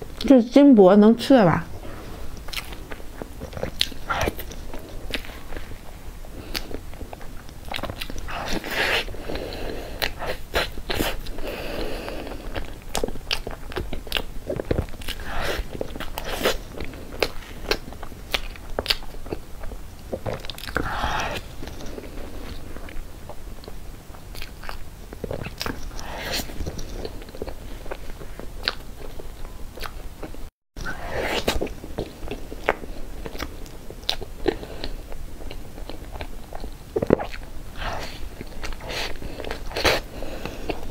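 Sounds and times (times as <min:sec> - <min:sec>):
wet chewing and smacking: 0:02.3 - 0:40.9.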